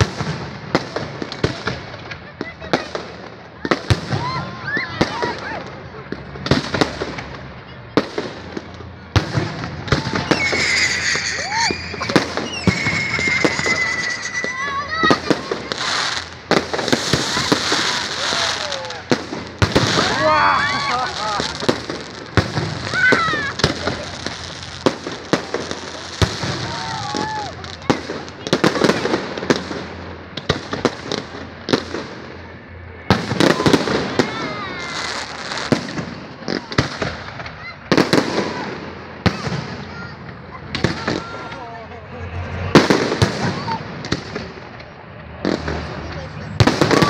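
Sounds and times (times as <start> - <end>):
fireworks bangs and pops: 0.0 - 47.0
high whistling firework: 8.0 - 47.0.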